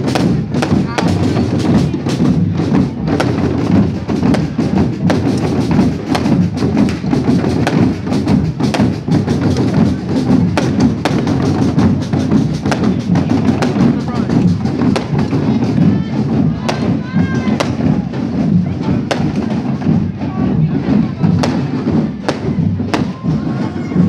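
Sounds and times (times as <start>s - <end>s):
loud music with drums: 0.0s - 24.0s.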